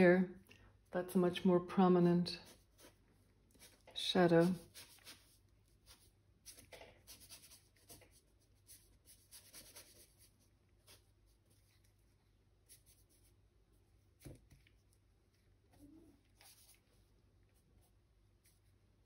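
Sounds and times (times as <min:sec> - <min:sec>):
paintbrush scratching on canvas: 0:02.3 - 0:18.9.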